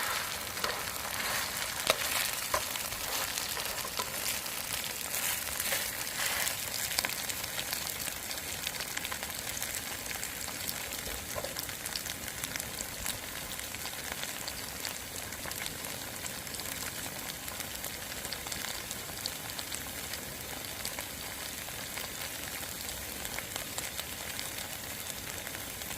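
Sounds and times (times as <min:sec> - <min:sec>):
pancake sizzling in hot oil: 0:00.0 - 0:25.9.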